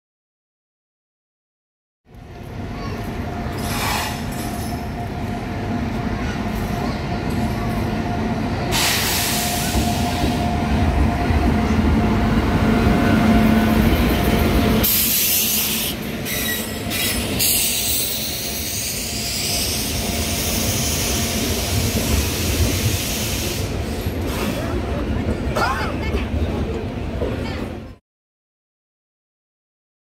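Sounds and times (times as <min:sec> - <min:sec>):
train rumbling on rails: 0:02.1 - 0:28.0.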